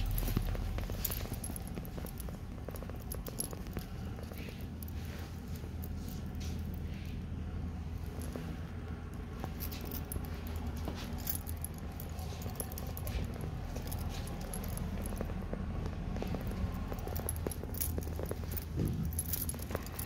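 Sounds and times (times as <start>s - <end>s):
keys jingling: 0.0s - 7.2s, 8.1s - 20.0s
steady low hum: 0.0s - 20.0s.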